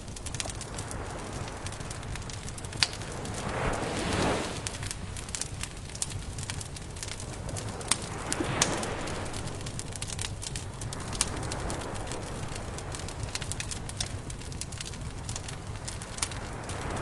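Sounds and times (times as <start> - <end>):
burning wood rumbling: 0.0 - 17.0
campfire crackling: 0.0 - 17.0.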